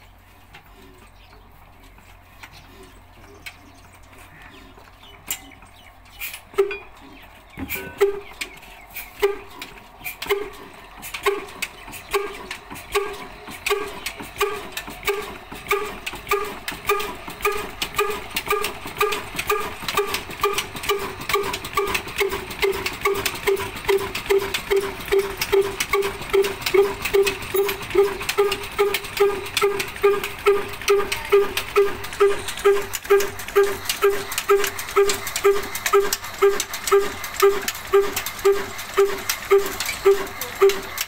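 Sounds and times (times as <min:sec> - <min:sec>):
diesel engine exhaust beating: 0:00.0 - 0:41.0.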